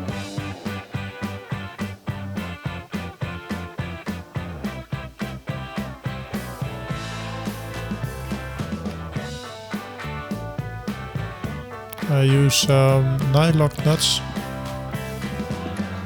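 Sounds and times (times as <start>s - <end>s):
instrumental funk music with guitar: 0.0s - 16.0s.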